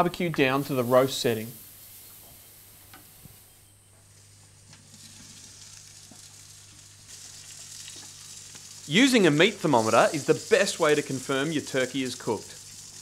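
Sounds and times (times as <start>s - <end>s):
turkey sizzling on barbecue: 0.0s - 13.0s.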